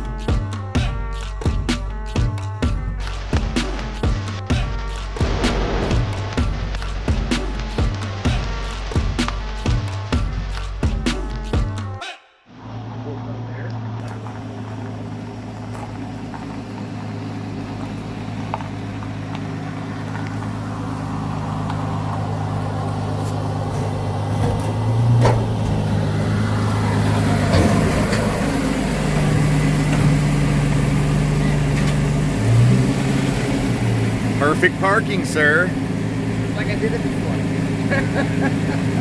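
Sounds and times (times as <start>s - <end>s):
truck engine running: 0.0s - 12.0s, 12.7s - 39.0s.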